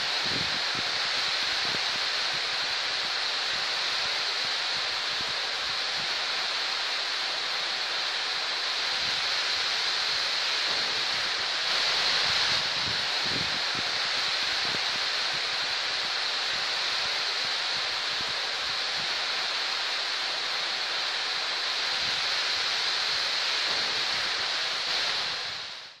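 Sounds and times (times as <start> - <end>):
heavy rain on trees and grass: 0.0 - 26.0.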